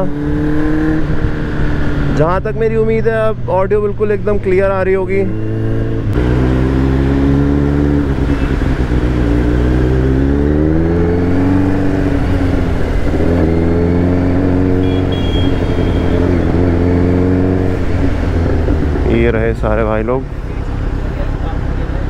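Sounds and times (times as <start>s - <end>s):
motorcycle engine revving: 0.0s - 3.0s, 4.1s - 20.0s
road and wind noise: 0.0s - 22.0s.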